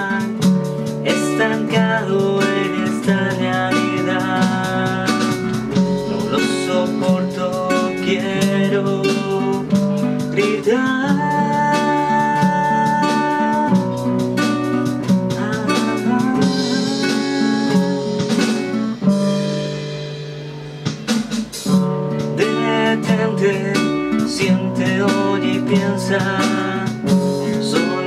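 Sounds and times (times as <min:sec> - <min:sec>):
guitar accompaniment: 0:00.0 - 0:28.0.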